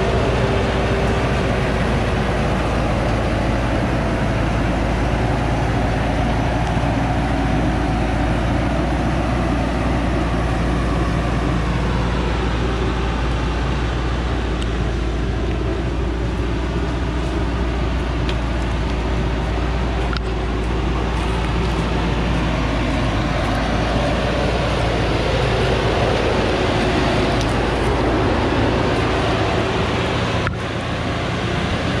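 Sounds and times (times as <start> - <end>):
truck diesel engine under load: 0.0 - 32.0.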